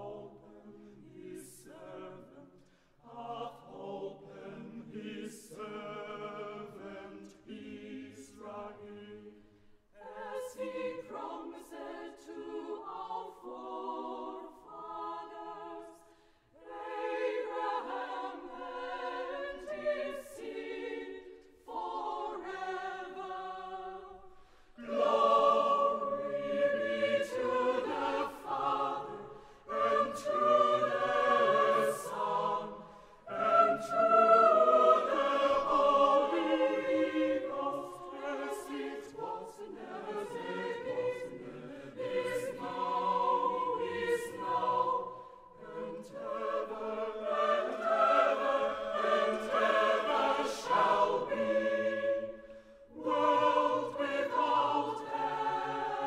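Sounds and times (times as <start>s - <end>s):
choir singing a carol: 0.0s - 56.0s.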